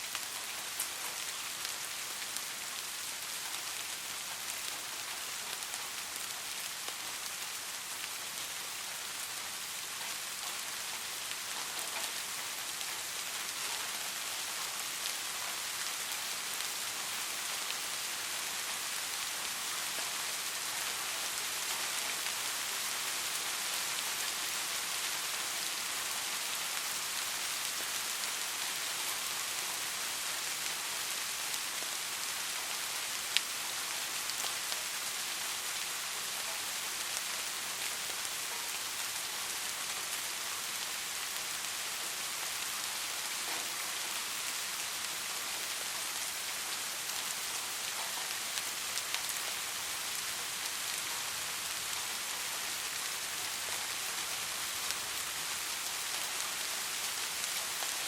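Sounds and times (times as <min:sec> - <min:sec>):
soft rain falling: 0:00.0 - 0:58.0.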